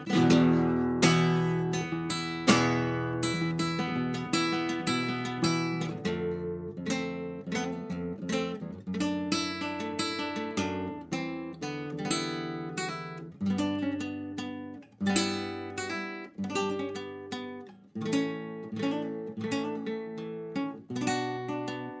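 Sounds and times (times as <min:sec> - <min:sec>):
solo acoustic guitar: 0:00.0 - 0:22.0.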